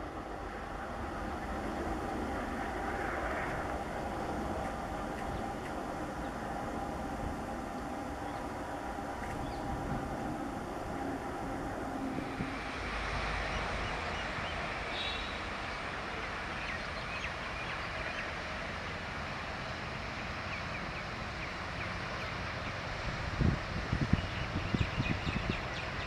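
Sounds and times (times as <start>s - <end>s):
rail noise: 0.0s - 26.0s.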